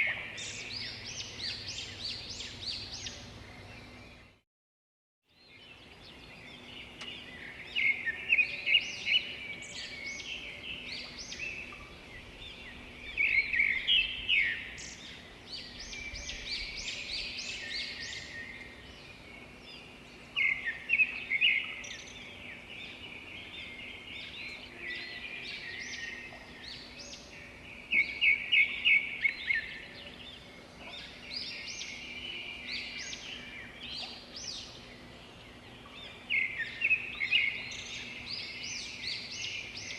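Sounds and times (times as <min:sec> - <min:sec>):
birds chirping and singing: 0:00.0 - 0:04.4, 0:05.4 - 0:39.9.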